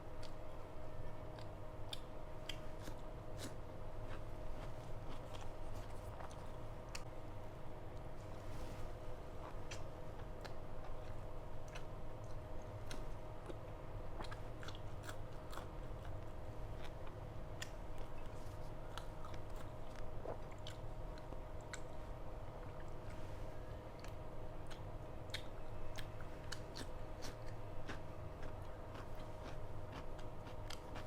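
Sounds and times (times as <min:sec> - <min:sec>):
low background hum: 0:00.0 - 0:31.0
person chewing with wet smacks: 0:00.1 - 0:07.1, 0:09.3 - 0:23.1, 0:23.7 - 0:31.0.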